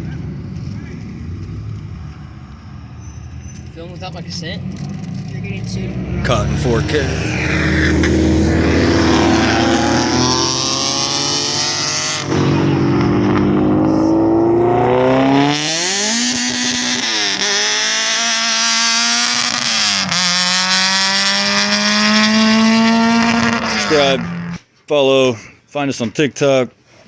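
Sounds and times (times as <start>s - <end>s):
vehicle engine accelerating: 0.0s - 24.6s.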